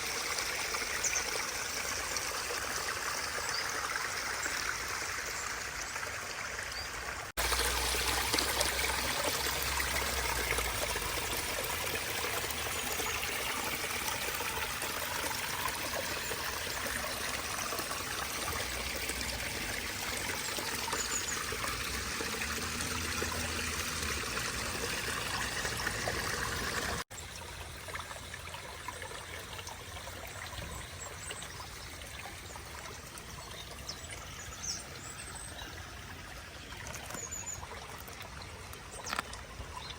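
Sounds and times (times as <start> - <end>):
water trickling over rocks: 0.0 - 39.9.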